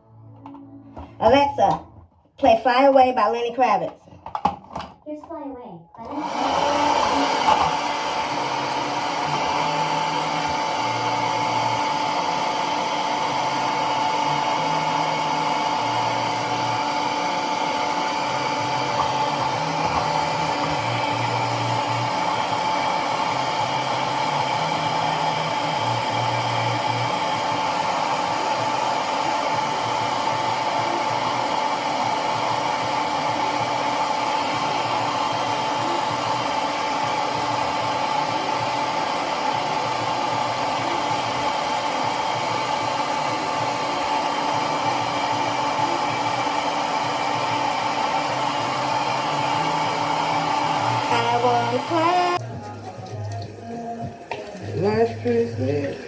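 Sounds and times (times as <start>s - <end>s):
hair dryer running with whine: 6.0s - 56.0s.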